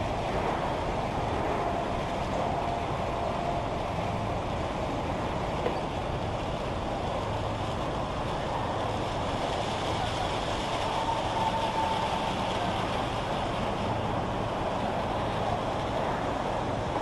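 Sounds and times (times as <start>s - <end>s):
bus wash machine noise: 0.0s - 17.0s.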